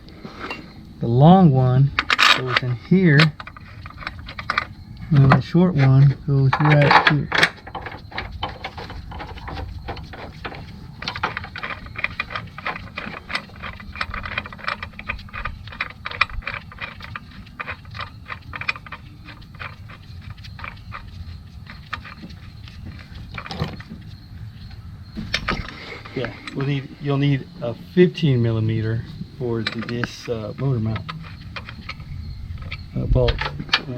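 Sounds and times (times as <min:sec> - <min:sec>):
low steady rumble: 0:00.0 - 0:33.9.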